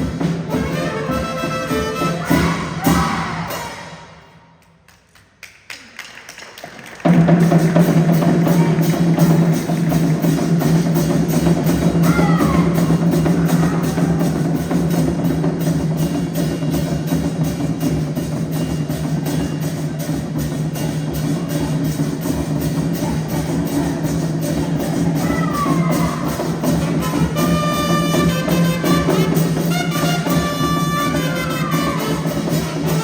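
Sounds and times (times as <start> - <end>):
percussion band drumming: 0.0 - 4.8, 5.9 - 33.0.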